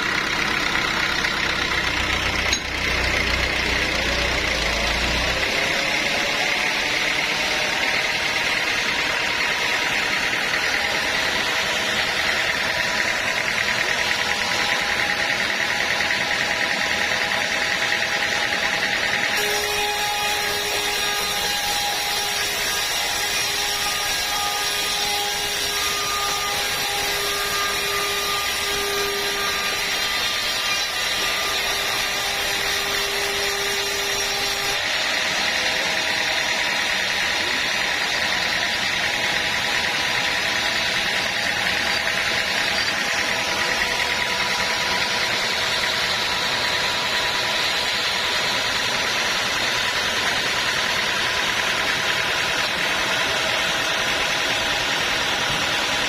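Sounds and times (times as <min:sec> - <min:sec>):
saw whining through wood: 0:00.0 - 0:56.0.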